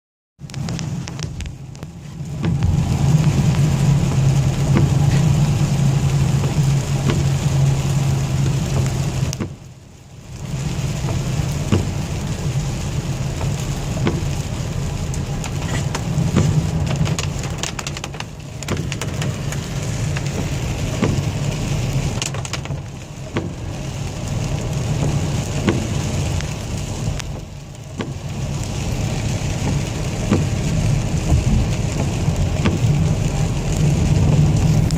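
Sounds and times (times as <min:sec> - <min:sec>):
low rumble: 0:00.4 - 0:09.4, 0:10.3 - 0:34.9
heavy rain: 0:00.4 - 0:34.9
raindrops tapping: 0:00.4 - 0:34.9.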